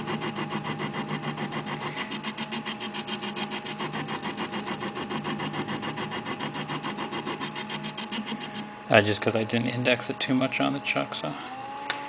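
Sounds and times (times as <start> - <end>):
lathe cutting aluminum: 0.0 - 12.0.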